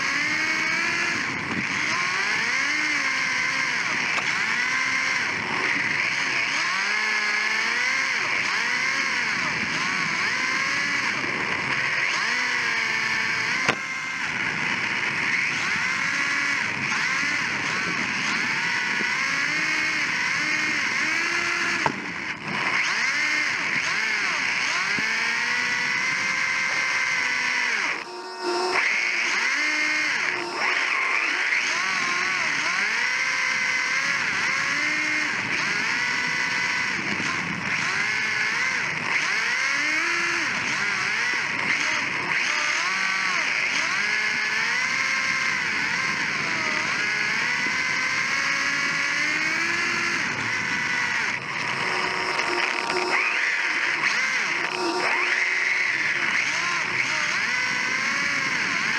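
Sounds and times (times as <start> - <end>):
rc car motor whining: 0.0 - 58.9.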